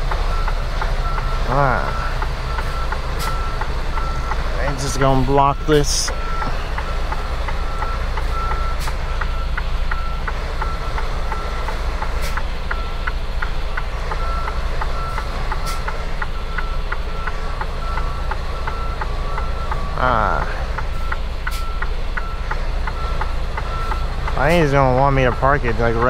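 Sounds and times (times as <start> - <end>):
diesel truck engine rumbling: 0.0 - 26.0
backup alarm beeping: 0.3 - 11.8, 14.1 - 26.0.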